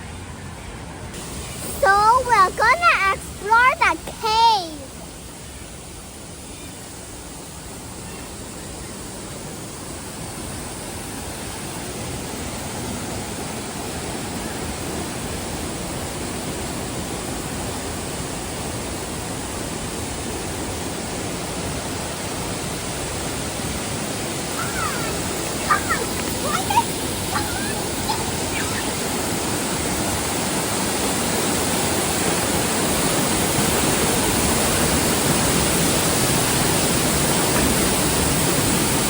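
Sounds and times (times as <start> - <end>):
rushing water: 0.0 - 39.0.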